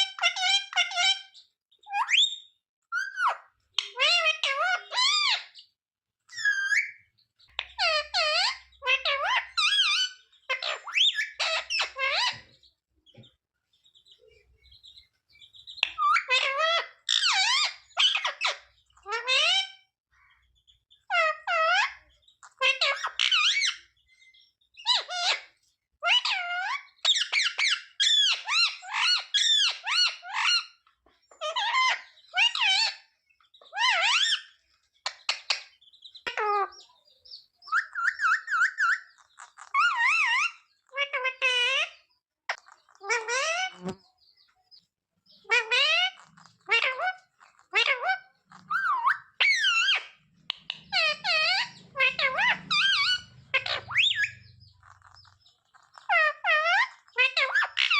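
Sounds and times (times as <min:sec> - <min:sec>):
parrot squawking and chattering: 0:00.0 - 0:05.7, 0:06.3 - 0:12.7, 0:14.0 - 0:24.0, 0:24.7 - 0:44.5, 0:45.3 - 0:57.9
parrot trill: 0:00.0 - 0:12.6, 0:13.9 - 0:44.5, 0:45.3 - 0:57.9
parakeet calls: 0:00.0 - 0:13.3, 0:13.9 - 0:57.9.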